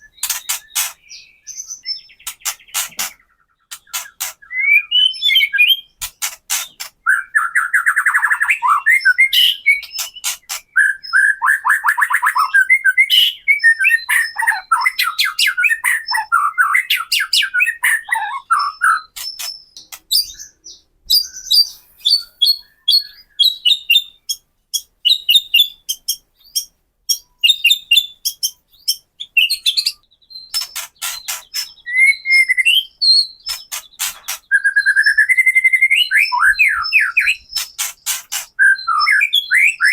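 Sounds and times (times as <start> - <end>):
songbird singing with clicks: 0.0 - 39.9.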